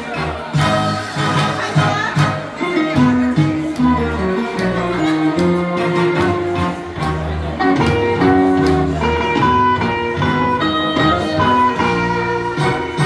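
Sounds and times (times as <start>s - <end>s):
instrumental backing track: 0.0s - 13.0s.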